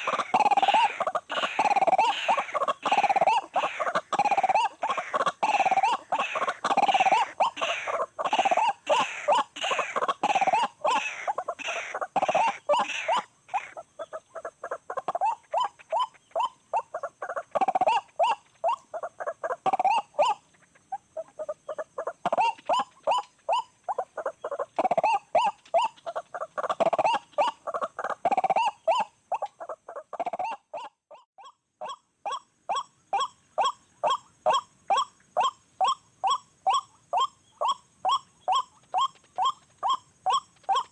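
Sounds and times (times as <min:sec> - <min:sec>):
waterhen calling harsh repeated notes: 0:00.0 - 0:40.9.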